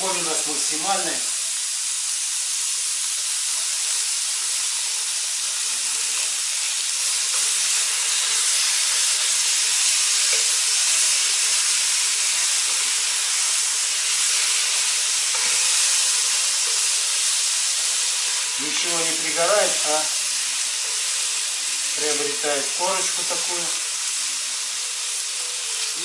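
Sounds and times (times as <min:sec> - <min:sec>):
meat sizzling in a pot: 0:00.0 - 0:26.0.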